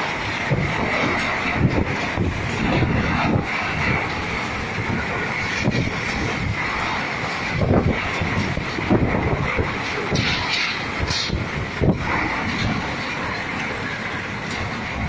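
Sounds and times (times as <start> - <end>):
strong wind gusts: 0.0 - 15.0.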